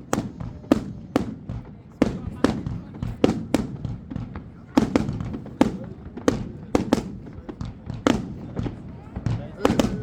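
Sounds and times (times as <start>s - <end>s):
firework bangs: 0.0s - 10.0s
rumble and crackle of distant fireworks: 0.0s - 10.0s.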